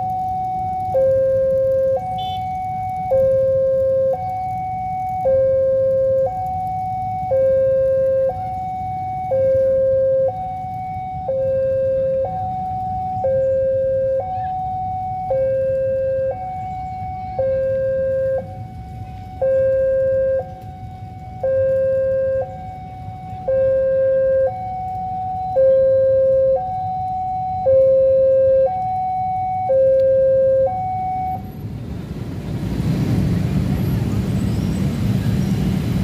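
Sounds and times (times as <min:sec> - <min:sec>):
two-tone crossing alarm: 0:00.0 - 0:31.7
tram wheels rumbling on rails: 0:00.0 - 0:36.0.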